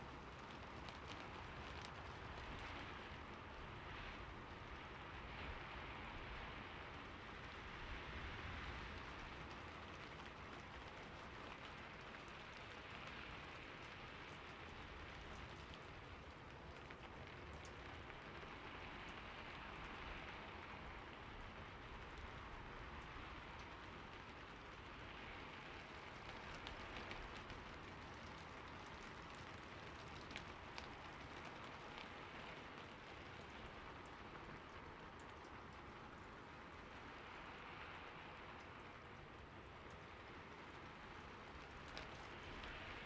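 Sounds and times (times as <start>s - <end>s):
rain falling on a roof: 0.0s - 43.0s.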